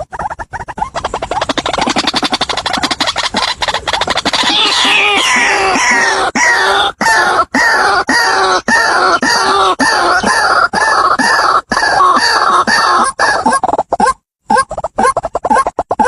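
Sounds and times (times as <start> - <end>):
waterhen harsh croaking calls: 0.7 - 16.0.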